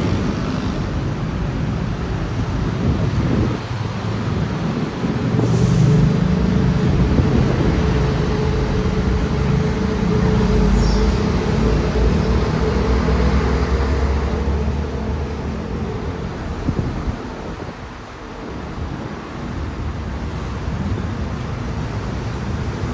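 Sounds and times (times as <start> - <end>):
large vehicle engine hum: 0.0 - 22.9.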